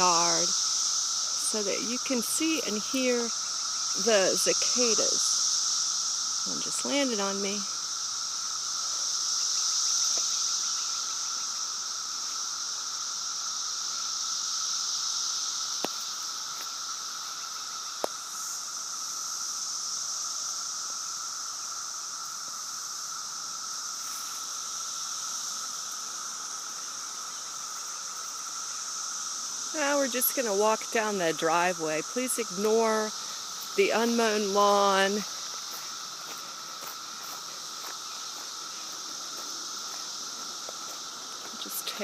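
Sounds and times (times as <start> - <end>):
cicadas droning: 0.0 - 42.0.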